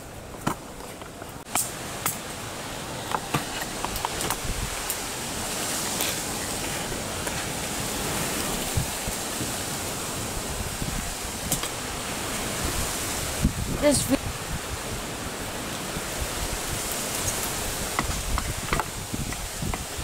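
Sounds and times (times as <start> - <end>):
fire crackles and pops: 0.0 - 14.7, 15.4 - 20.0
wood fire hissing: 1.3 - 20.0.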